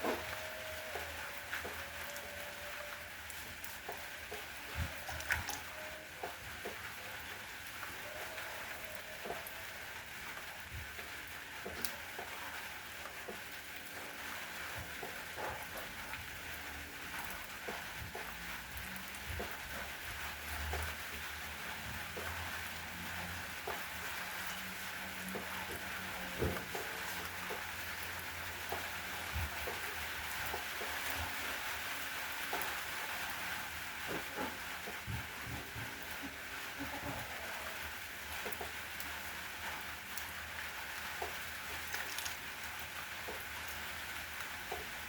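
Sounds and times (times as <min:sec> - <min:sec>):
raindrops ticking on surface: 0:00.0 - 0:45.0
steady rain hissing: 0:00.0 - 0:45.0.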